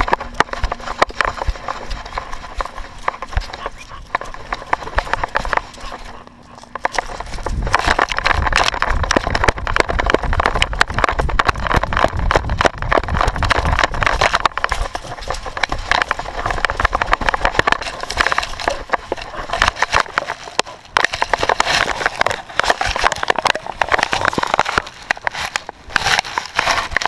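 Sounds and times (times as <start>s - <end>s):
camera housing knocking and rustling: 0.0s - 27.0s
wind: 0.0s - 27.0s.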